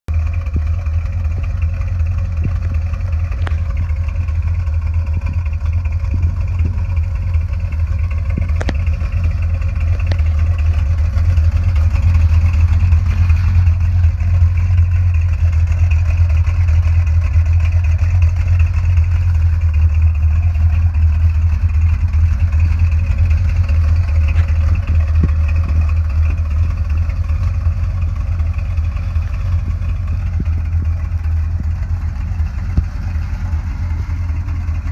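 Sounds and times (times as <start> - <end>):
pickup truck engine droning: 0.1 - 34.9.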